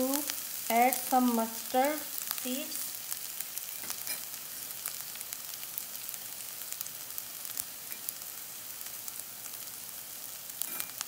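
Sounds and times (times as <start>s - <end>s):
mustard seeds crackling: 0.0s - 11.0s
vegetables sizzling in hot oil: 0.0s - 11.0s.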